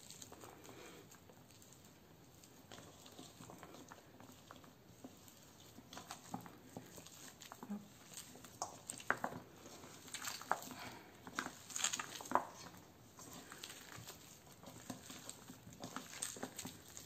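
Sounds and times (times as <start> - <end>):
hands squelching soap paste: 0.0 - 17.0.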